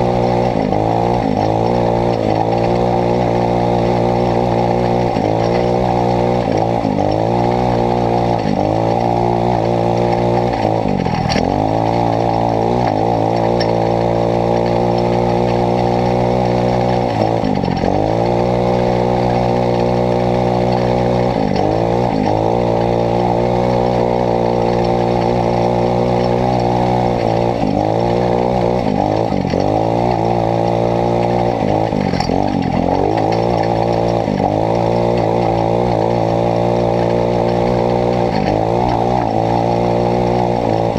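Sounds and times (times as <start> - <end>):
buggy engine revving: 0.0 - 40.9.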